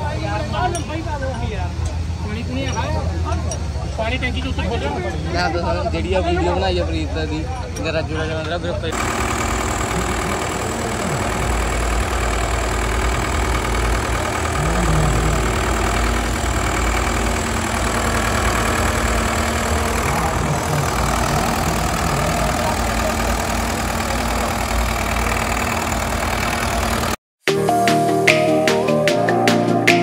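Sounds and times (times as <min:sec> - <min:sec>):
diesel engine idling: 0:00.0 - 0:27.2.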